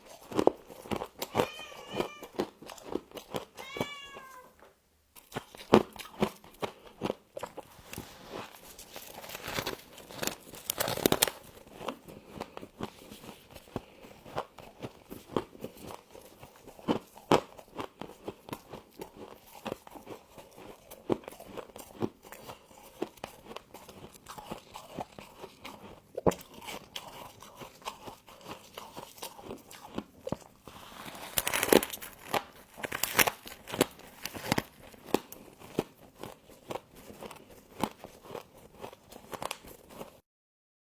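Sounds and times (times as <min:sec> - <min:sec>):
crunching and chewing frost: 0:00.0 - 0:40.2.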